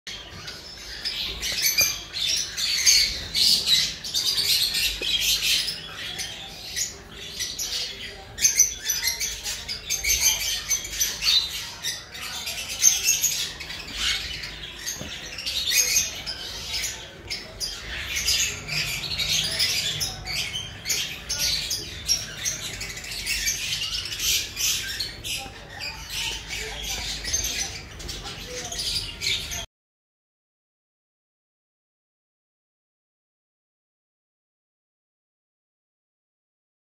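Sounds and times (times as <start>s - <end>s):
parrots squawking and chattering: 0.1s - 29.7s.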